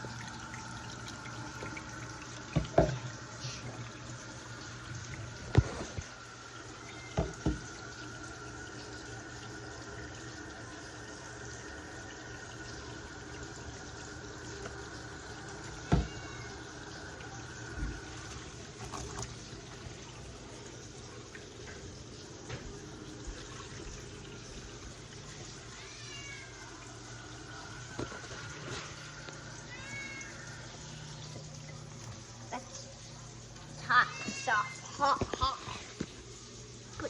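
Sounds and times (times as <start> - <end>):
tap water running into sink: 0.0 - 37.0.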